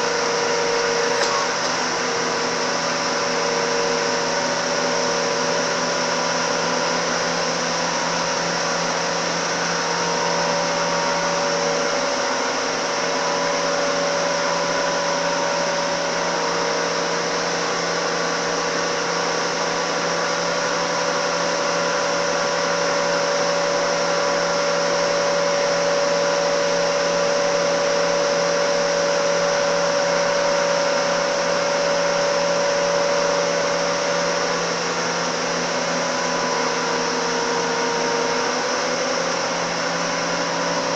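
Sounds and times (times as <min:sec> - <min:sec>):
grinding mill running: 0:00.0 - 0:40.9.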